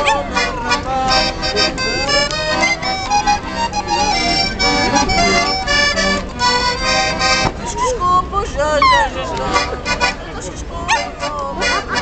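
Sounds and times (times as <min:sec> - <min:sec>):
piano accordion playing: 0:00.0 - 0:12.0.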